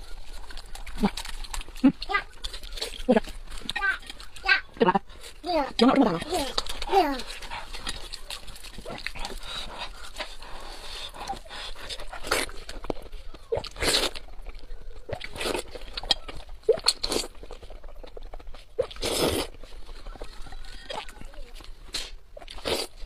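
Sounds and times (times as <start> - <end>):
soft chewing and smacking: 0.0 - 23.0.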